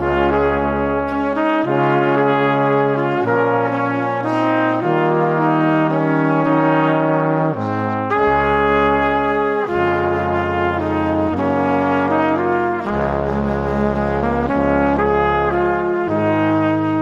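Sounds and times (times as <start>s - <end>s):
slow brass-like chords: 0.0s - 17.0s.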